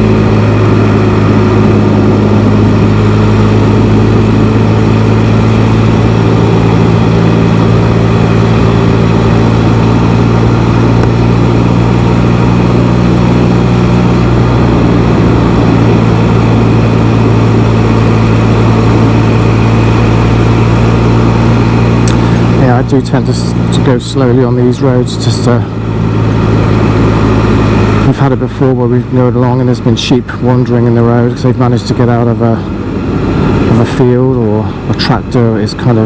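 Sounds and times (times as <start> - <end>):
motorcycle engine cruising: 0.0 - 36.0
road and wind noise: 0.0 - 36.0.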